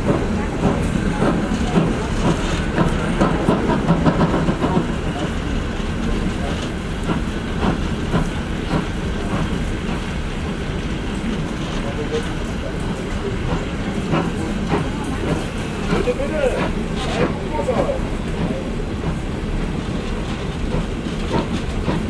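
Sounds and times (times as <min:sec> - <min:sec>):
steady train rumble: 0:00.0 - 0:22.0
train wheels clattering on rails: 0:00.0 - 0:22.0.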